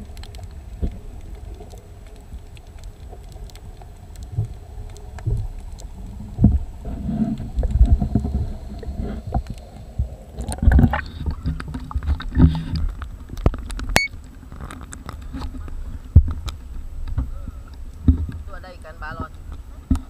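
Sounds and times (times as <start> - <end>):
muffled underwater rumble: 0.0 - 20.0
water splashing: 0.0 - 20.0.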